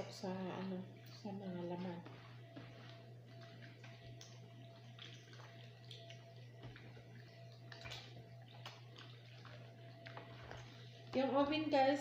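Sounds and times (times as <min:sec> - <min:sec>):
steady low hum: 0:00.0 - 0:12.0
hands squishing raw chicken: 0:01.0 - 0:11.1.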